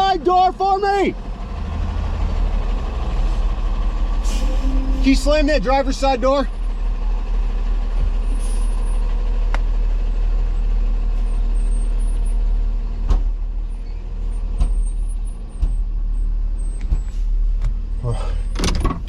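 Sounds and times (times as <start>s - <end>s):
engine idling: 0.0s - 18.5s.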